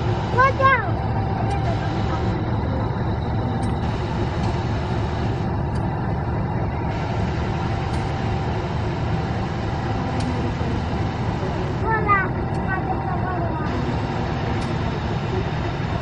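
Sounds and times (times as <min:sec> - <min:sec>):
locomotive engine rumble: 0:00.0 - 0:16.0.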